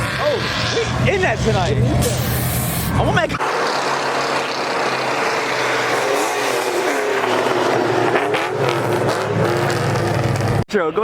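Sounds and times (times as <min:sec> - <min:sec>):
car engine running: 0:00.0 - 0:10.6.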